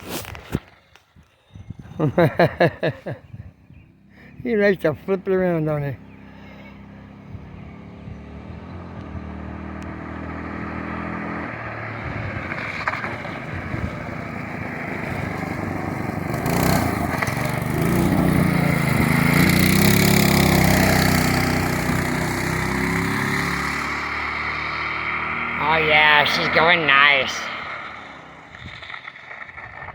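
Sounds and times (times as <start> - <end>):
small engine revving: 3.8 - 29.9.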